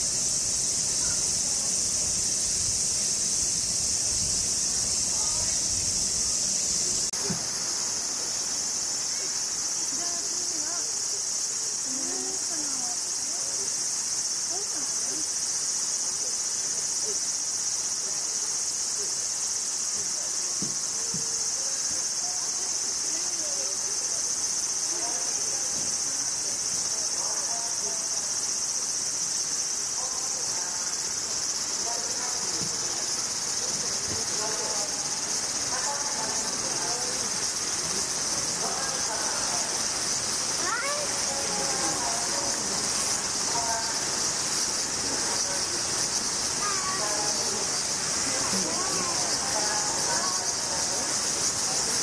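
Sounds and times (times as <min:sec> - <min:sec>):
cicadas chorus: 0:00.0 - 0:52.0
faint distant voices: 0:00.0 - 0:52.0.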